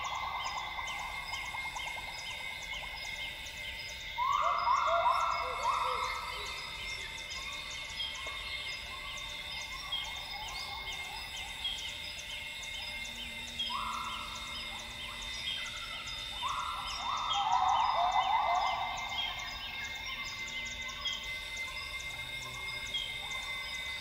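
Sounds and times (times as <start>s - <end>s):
insect drones: 0.0s - 24.0s.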